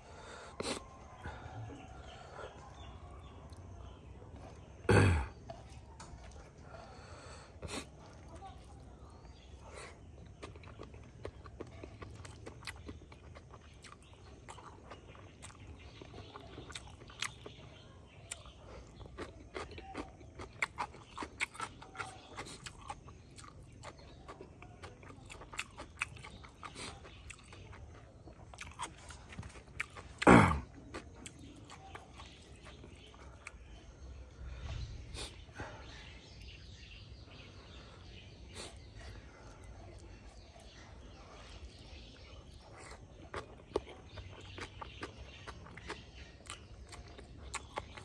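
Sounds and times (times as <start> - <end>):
person chewing: 0.1 - 48.0.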